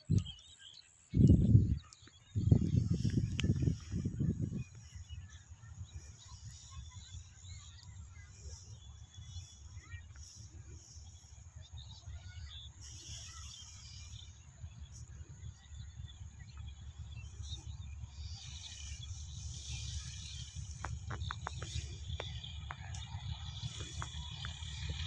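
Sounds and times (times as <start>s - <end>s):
small bird chirps: 0.0s - 25.0s
low steady rumble: 1.2s - 25.0s
crickets and insects chirring: 2.4s - 25.0s.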